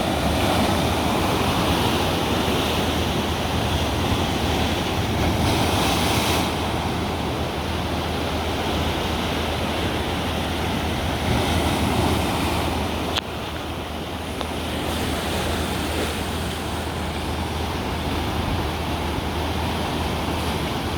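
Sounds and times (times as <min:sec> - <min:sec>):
ocean waves washing ashore: 0:00.0 - 0:20.9.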